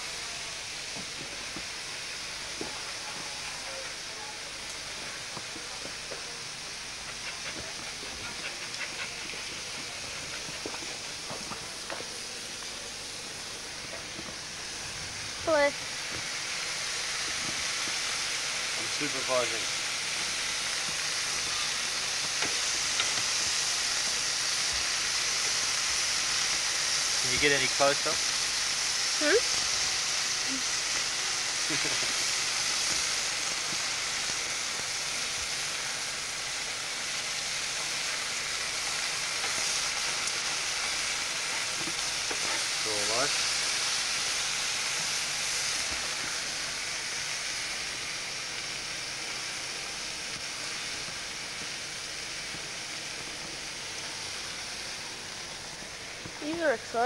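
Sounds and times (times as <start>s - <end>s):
food sizzling on a grill: 0.0s - 57.0s
steady hissing noise: 0.0s - 57.0s.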